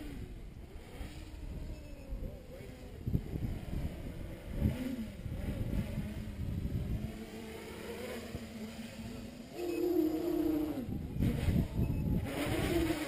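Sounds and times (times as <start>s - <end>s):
drone motors buzzing: 0.0s - 13.0s
wind rumble on microphone: 0.0s - 13.0s.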